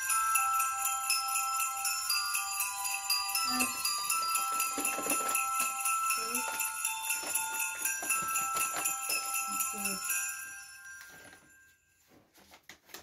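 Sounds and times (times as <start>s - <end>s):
sleigh bells shaking: 0.0s - 12.0s
bell-like melody notes: 0.0s - 12.2s.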